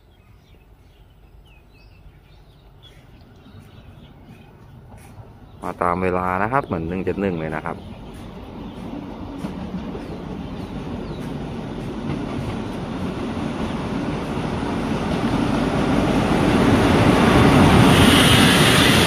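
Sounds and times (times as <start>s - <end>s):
locomotive engine rumble: 2.6s - 19.0s.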